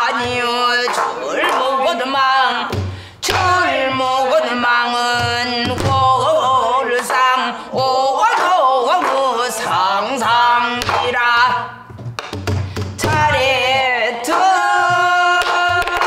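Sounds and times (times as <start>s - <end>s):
woman singing: 0.0s - 11.8s, 13.0s - 16.0s.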